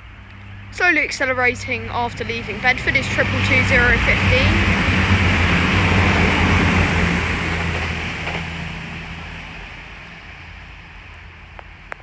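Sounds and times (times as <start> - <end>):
diesel train engine drone: 0.0 - 12.0
train wheels rushing on rail: 0.6 - 11.1.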